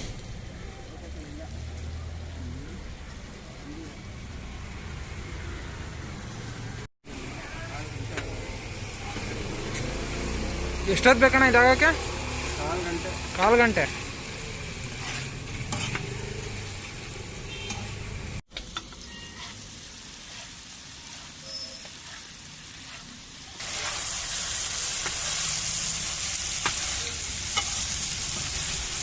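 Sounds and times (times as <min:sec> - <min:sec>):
food sizzling on griddle: 0:00.0 - 0:05.3, 0:05.9 - 0:29.0.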